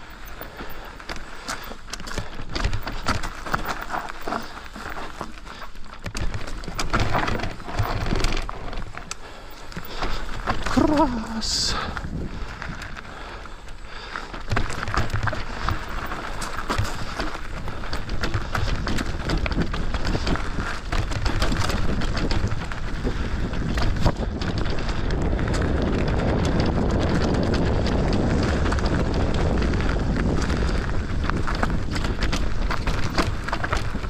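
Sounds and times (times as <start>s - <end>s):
bike rattling clicks and knocks: 0.0s - 34.0s
tyres crunching over rocks: 0.0s - 34.0s
wind buffeting microphone: 0.0s - 34.0s.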